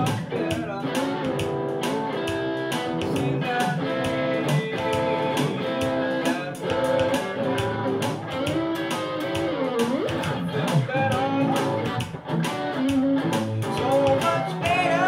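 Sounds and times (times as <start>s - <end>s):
electric guitar shuffle: 0.0s - 15.0s
steady beat: 0.0s - 15.0s.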